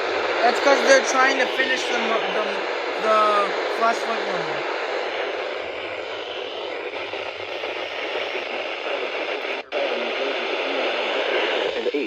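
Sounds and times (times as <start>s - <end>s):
faint low hum: 0.0s - 12.0s
radio static hiss: 0.0s - 12.0s.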